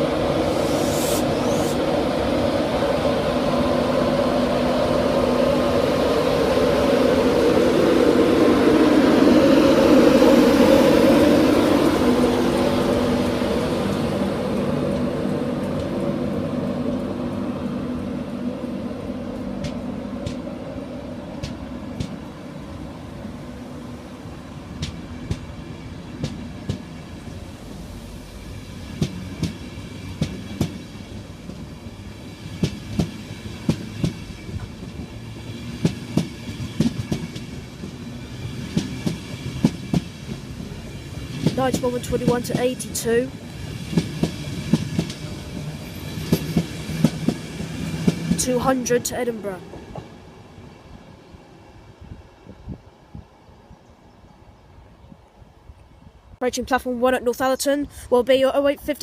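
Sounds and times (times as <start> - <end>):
electric train passing: 0.0 - 56.4.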